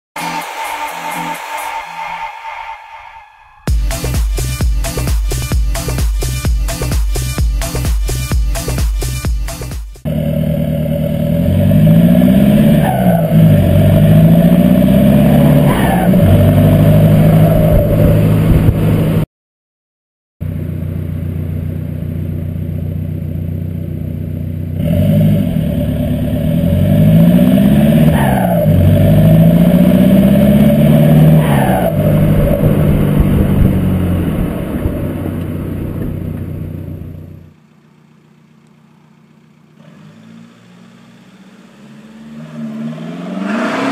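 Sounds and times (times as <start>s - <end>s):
diesel engine revving: 3.7s - 19.3s, 20.4s - 37.6s, 39.0s - 43.9s.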